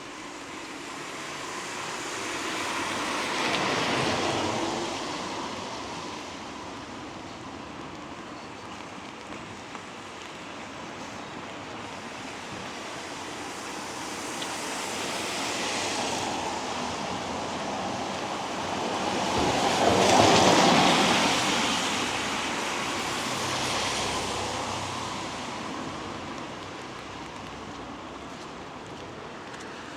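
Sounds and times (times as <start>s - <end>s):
cars passing on wet road: 0.0s - 29.9s.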